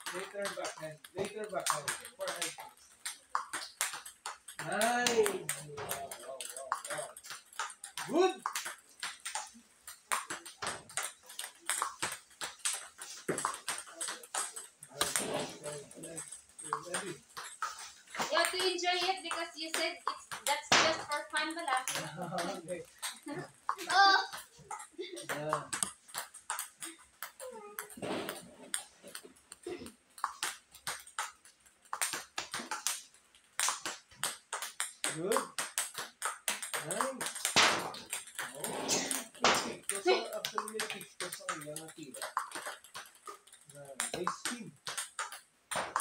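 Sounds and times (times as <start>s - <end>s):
ping pong ball clicking: 0.0s - 46.0s.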